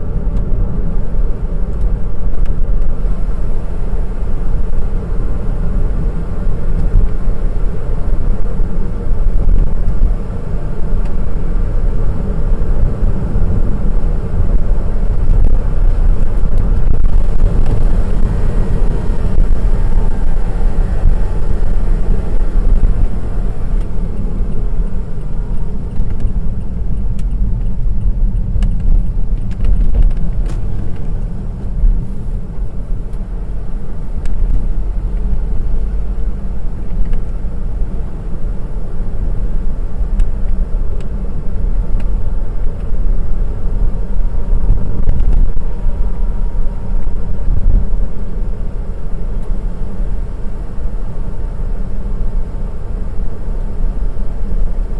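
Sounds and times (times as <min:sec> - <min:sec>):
car engine rumble: 0:00.0 - 0:54.9
faint engine whine: 0:00.0 - 0:54.9
road noise: 0:00.0 - 0:54.9.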